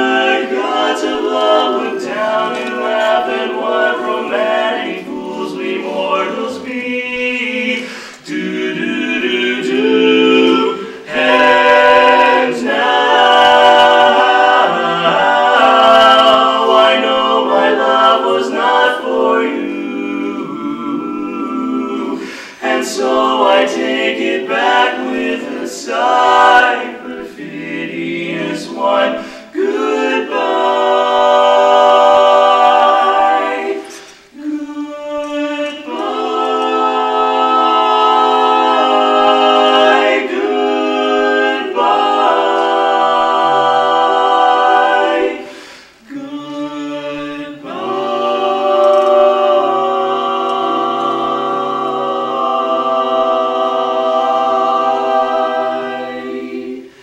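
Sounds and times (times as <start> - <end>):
male quartet singing a cappella: 0.0 - 57.0.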